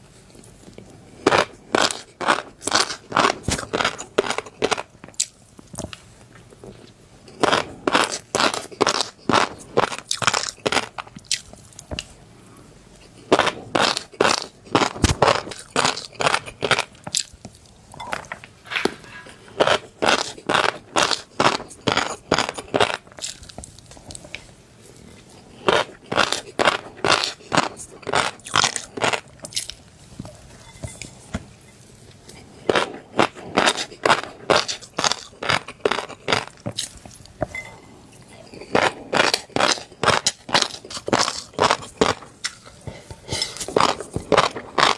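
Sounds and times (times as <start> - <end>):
chewing crunchy fish roe: 0.0 - 37.4, 38.1 - 44.9.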